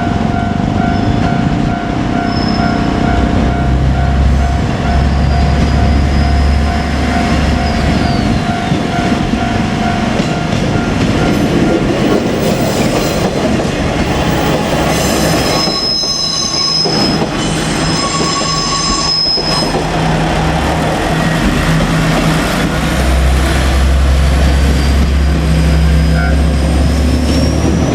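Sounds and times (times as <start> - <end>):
diesel railcar running past: 0.0 - 27.9
wheels squealing on rails: 2.0 - 9.6, 11.2 - 27.9.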